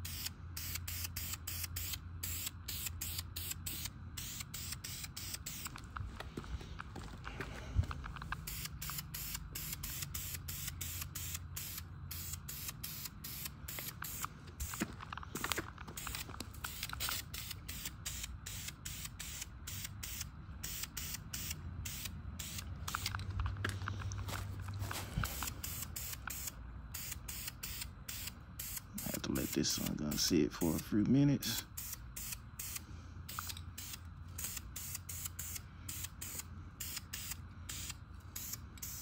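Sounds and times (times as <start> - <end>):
spray paint can hissing: 0.0 - 5.8, 8.3 - 23.2, 25.2 - 39.0.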